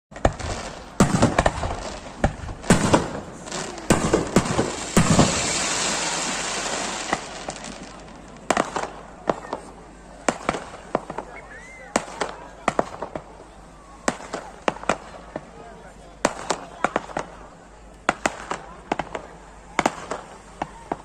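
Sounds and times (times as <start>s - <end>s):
fireworks bangs: 0.1s - 13.4s, 14.0s - 21.0s
fireworks crackle: 0.1s - 21.0s.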